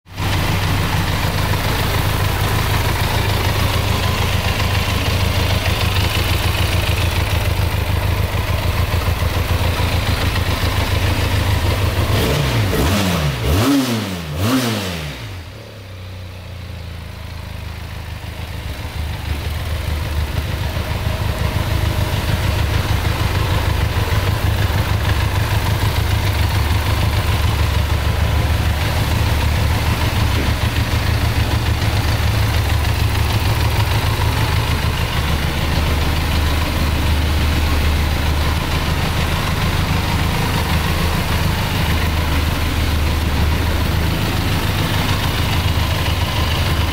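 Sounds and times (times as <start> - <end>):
motorcycle engine idling: 0.1 - 46.9.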